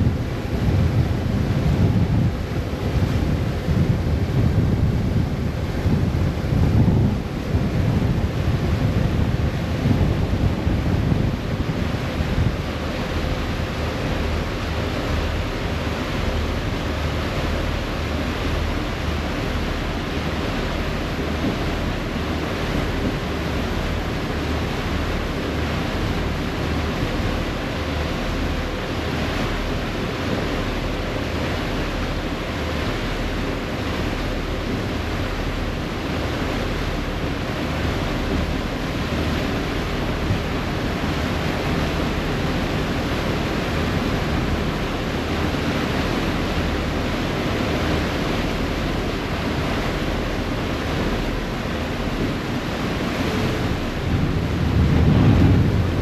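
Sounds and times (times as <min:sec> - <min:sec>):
low engine rumble: 0:00.0 - 0:56.0
rush of wind and water: 0:00.0 - 0:56.0
wind buffeting microphone: 0:00.0 - 0:56.0.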